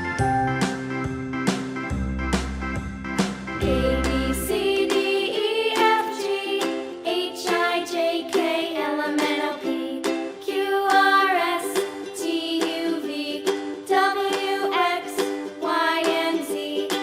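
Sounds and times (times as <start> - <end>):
light plucked background music: 0.0 - 17.0.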